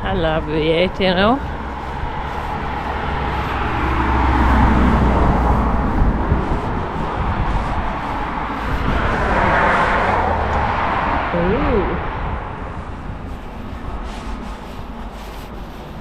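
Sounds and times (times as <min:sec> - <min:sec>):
road traffic passing: 0:00.0 - 0:16.0
steady low rumble: 0:00.0 - 0:16.0.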